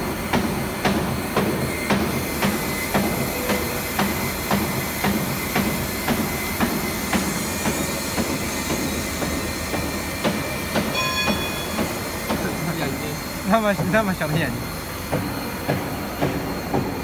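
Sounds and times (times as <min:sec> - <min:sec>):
foam cutting machine running: 0:00.0 - 0:17.0.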